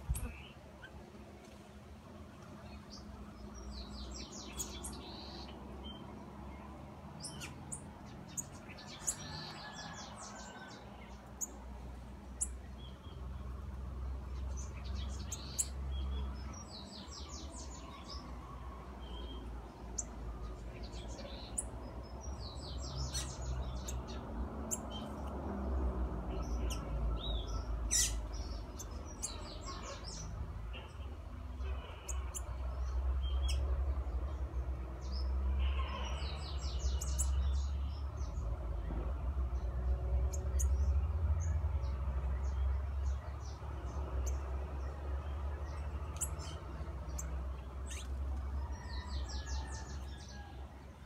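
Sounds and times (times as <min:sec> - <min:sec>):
songbirds chirping: 0:00.0 - 0:51.0.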